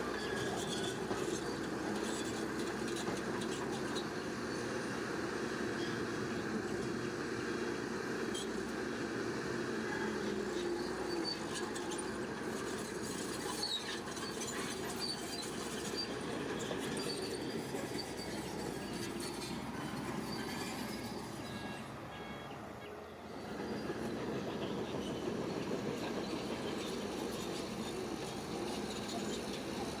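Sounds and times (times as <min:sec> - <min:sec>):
bulldozer engine drone: 0:00.0 - 0:30.0
steel tracks squeaking: 0:00.0 - 0:30.0.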